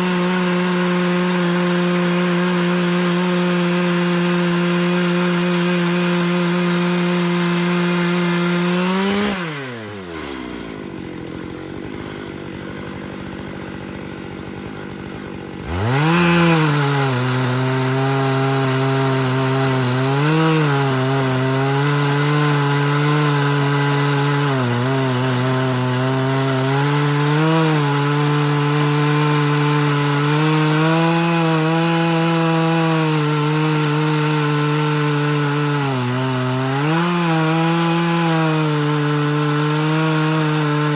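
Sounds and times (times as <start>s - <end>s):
chainsaw ripping through log: 0.0s - 40.9s.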